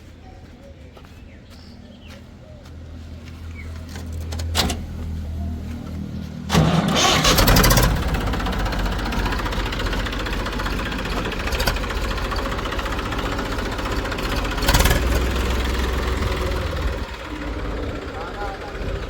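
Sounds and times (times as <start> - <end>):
diesel engine running: 3.3 - 19.0.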